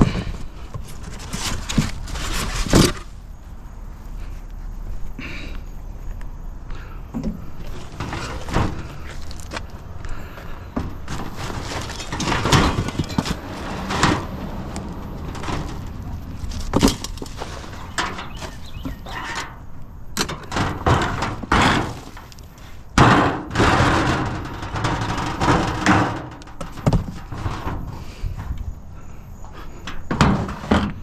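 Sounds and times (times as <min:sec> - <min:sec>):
junk clattering and scraping: 0:00.0 - 0:04.4, 0:06.8 - 0:31.0.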